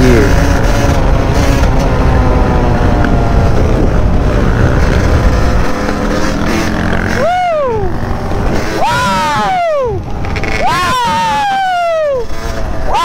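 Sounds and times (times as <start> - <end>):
wind noise on microphone: 0.0 - 12.9
dirt bike engine running: 0.0 - 13.0.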